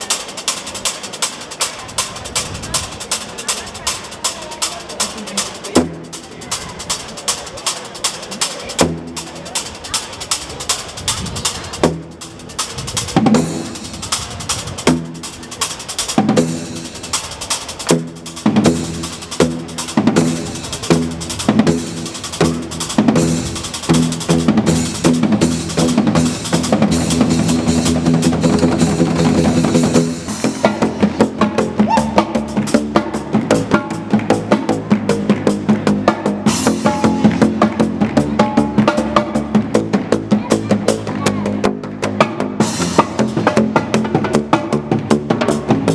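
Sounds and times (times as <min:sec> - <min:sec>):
pitched drum strokes: 0:00.0 - 0:45.9.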